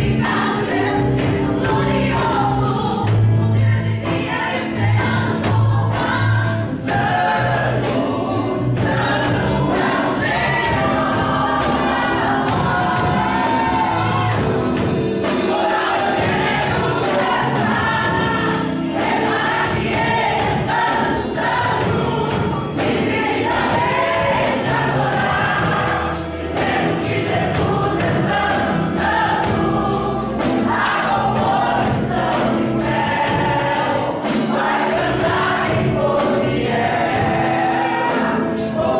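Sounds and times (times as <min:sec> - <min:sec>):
group of voices singing: 0:00.0 - 0:38.9
instrumental backing with beat: 0:00.0 - 0:38.9.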